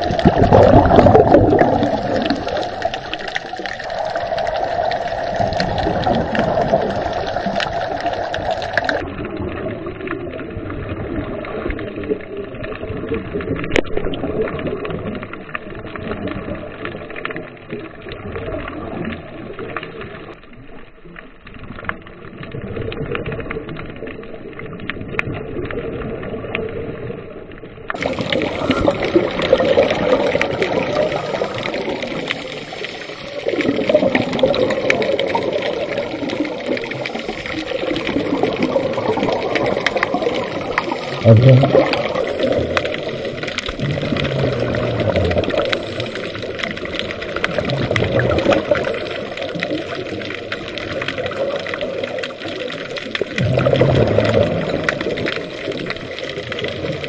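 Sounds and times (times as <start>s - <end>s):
air bubbling underwater: 0.0s - 16.8s, 27.9s - 57.0s
muffled underwater rush: 0.0s - 57.0s.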